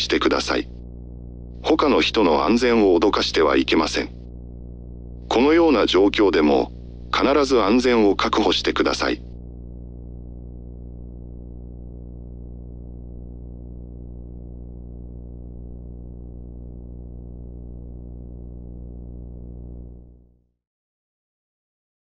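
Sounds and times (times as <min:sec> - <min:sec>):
low synthesizer drone: 0:00.0 - 0:20.2.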